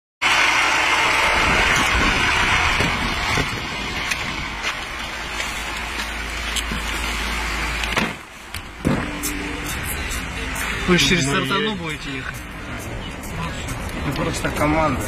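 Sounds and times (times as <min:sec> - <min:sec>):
truck engine running: 0:00.2 - 0:15.0.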